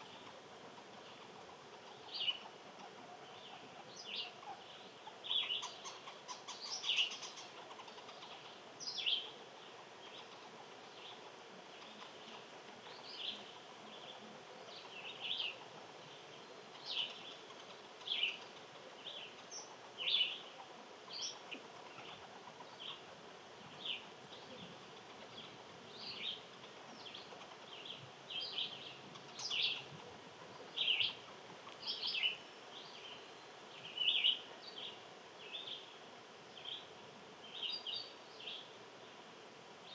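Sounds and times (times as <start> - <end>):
faint outdoor background: 0.0 - 39.9
small birds chirping: 0.0 - 39.9.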